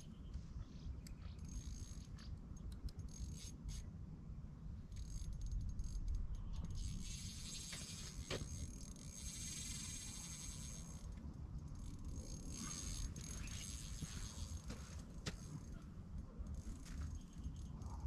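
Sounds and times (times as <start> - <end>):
fishing reel clicking and whirring: 1.0 - 3.9, 4.9 - 18.0.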